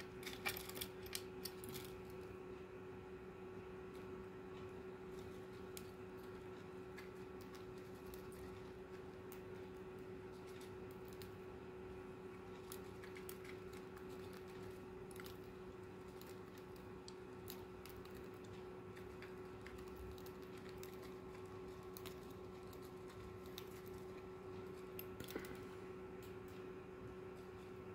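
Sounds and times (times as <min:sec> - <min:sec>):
birds pecking seed: 0:00.0 - 0:27.9
steady hum: 0:00.0 - 0:27.9.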